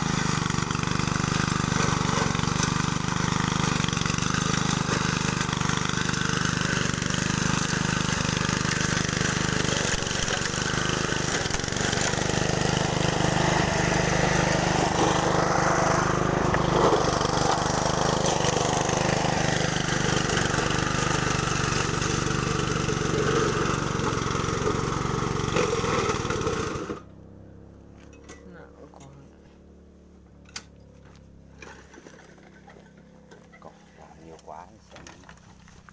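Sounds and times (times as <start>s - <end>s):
lawn mower engine running: 0.0s - 35.9s.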